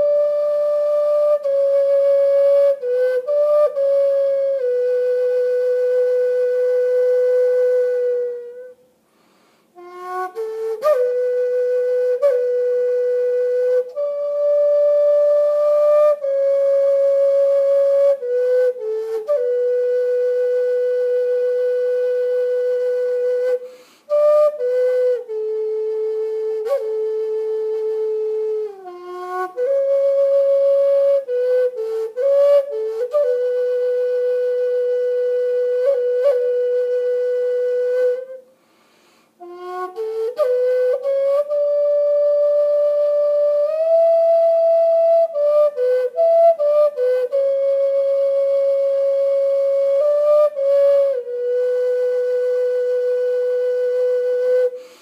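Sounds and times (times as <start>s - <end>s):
solo flute melody: 0.0s - 55.0s.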